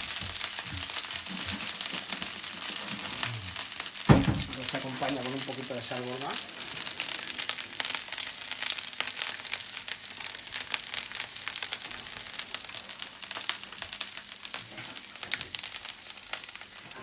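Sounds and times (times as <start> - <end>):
potato slices sizzling in oil: 0.0 - 17.0.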